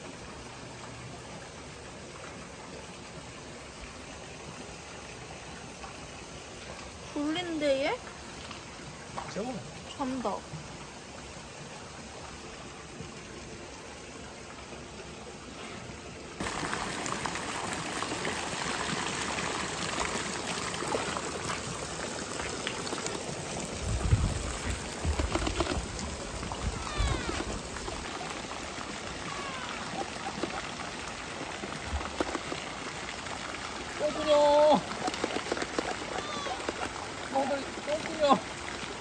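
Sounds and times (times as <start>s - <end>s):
water splashing and trickling: 0.0s - 39.0s.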